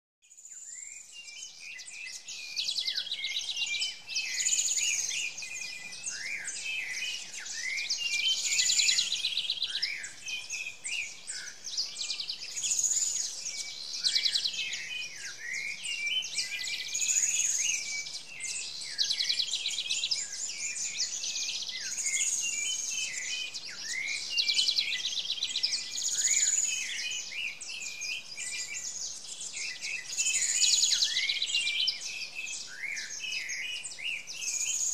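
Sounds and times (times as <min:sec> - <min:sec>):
songbirds singing: 0:00.2 - 0:34.9.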